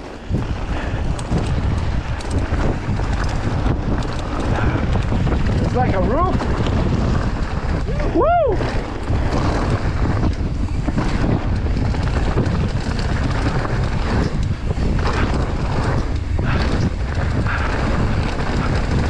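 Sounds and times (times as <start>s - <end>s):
bike rolling over gravel: 0.0s - 19.0s
wind buffeting microphone: 0.0s - 19.0s.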